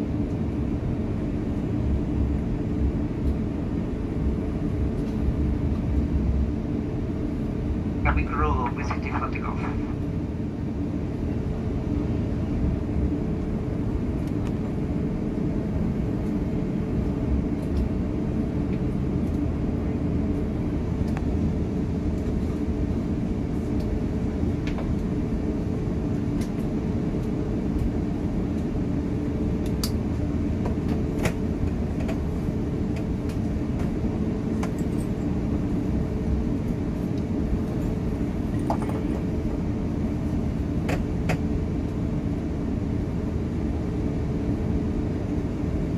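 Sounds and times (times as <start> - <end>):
airplane cabin engine rumble: 0.0 - 45.9
constant hum: 0.0 - 45.9.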